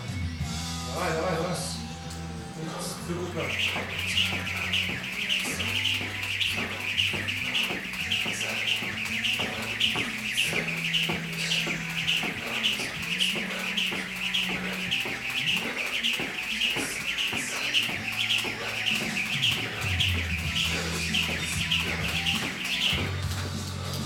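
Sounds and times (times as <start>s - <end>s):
background music: 0.0s - 24.0s
jump rope swishing and slapping: 3.3s - 24.0s.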